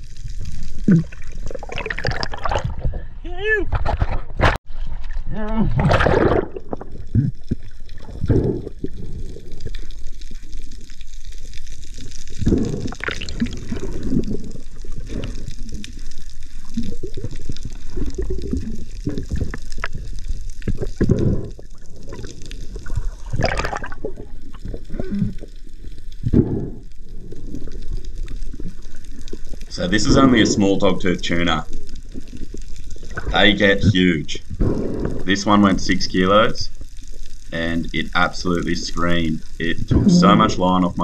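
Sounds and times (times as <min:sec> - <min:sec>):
muffled underwater water rushing: 0:00.0 - 0:03.2, 0:04.4 - 0:41.0.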